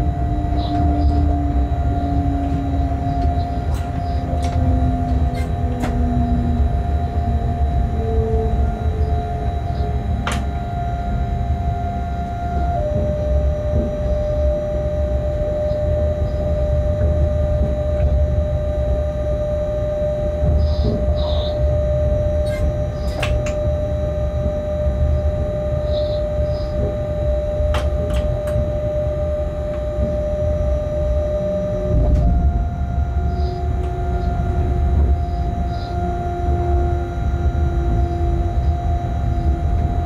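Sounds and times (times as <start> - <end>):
constant whining tone: 0.0 - 40.0
locomotive low rumble: 0.0 - 40.0.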